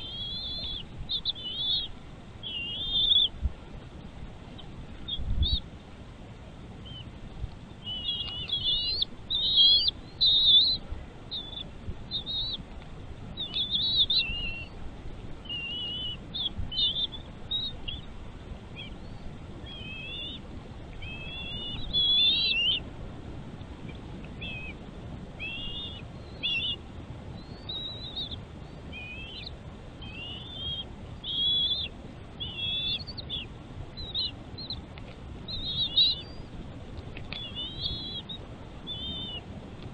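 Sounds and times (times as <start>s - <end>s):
bird chirping: 0.0s - 3.5s, 4.5s - 5.7s, 6.8s - 12.6s, 13.3s - 14.8s, 15.4s - 22.9s, 24.3s - 24.8s, 25.4s - 39.4s.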